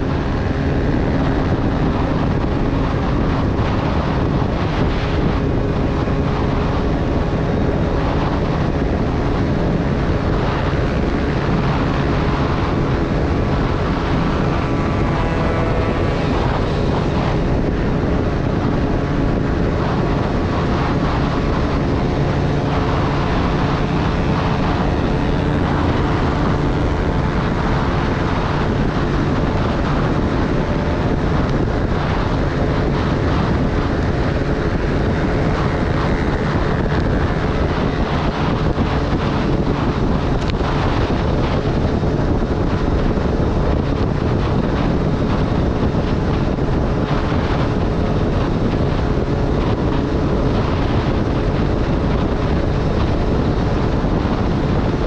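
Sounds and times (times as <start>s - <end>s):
motorcycle engine revving high: 0.0s - 55.0s
wind buffeting microphone: 0.0s - 55.0s.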